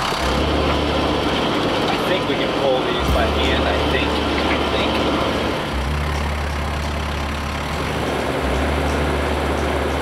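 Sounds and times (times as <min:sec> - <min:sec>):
tractor engine droning: 0:00.0 - 0:10.0.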